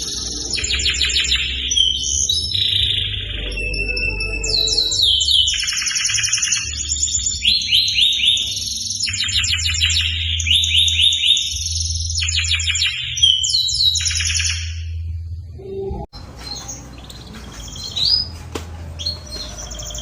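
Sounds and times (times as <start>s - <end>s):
canary singing trills: 0.0s - 15.0s, 19.0s - 20.0s.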